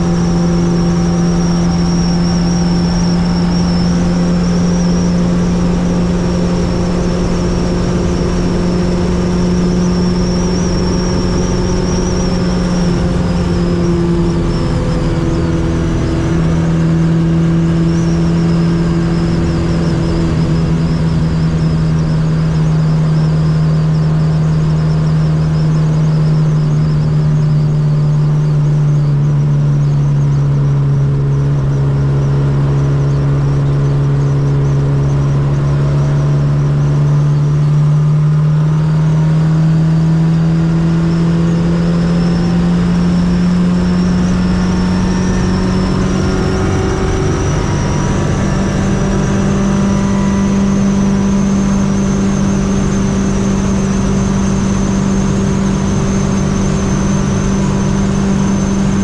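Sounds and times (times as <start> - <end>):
car engine cruising: 0.0 - 59.0
high whine: 0.0 - 59.0.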